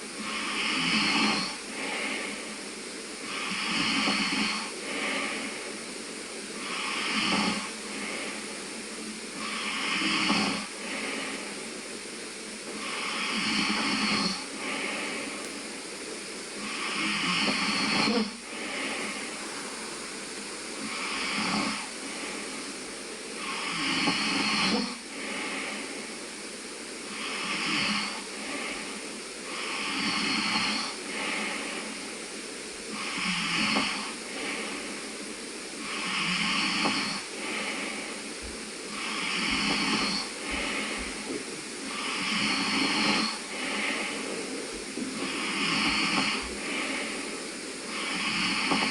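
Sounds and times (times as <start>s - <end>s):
background hiss: 0.0s - 48.9s
man snoring: 0.2s - 2.4s, 3.2s - 5.5s, 6.6s - 8.5s, 9.4s - 11.5s, 12.7s - 15.5s, 16.5s - 26.1s, 27.1s - 32.1s, 32.9s - 35.1s, 35.8s - 38.2s, 38.9s - 44.2s, 45.0s - 48.9s.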